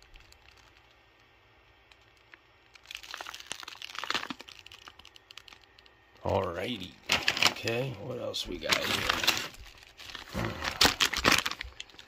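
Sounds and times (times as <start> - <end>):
packaging crinkling and crackling: 0.0 - 12.0.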